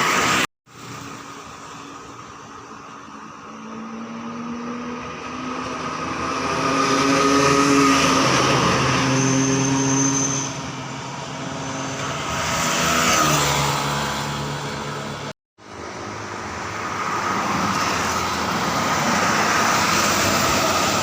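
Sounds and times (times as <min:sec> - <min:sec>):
trucks driving past: 0:00.0 - 0:21.0.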